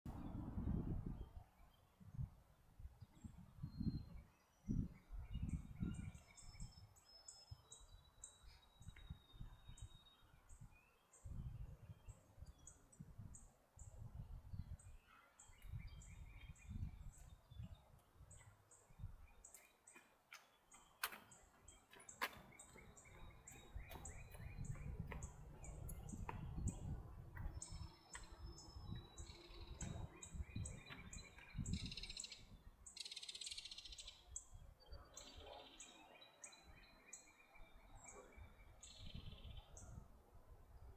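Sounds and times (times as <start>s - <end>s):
wind rumble on microphone: 0.1s - 19.4s, 22.6s - 32.9s, 33.5s - 35.7s, 37.6s - 40.9s
birds chirping and singing: 3.0s - 40.0s.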